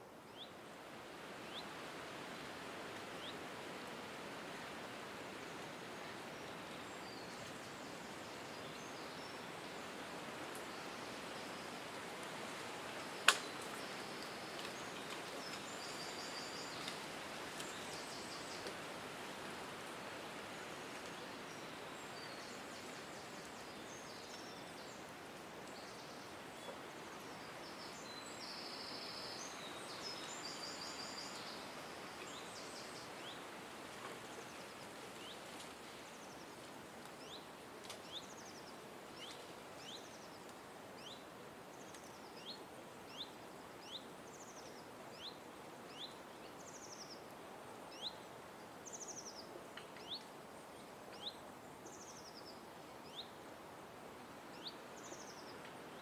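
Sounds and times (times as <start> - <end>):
songbirds calling: 0.0 - 3.7, 5.3 - 53.5, 54.4 - 56.0
steady outdoor hiss: 0.0 - 56.0.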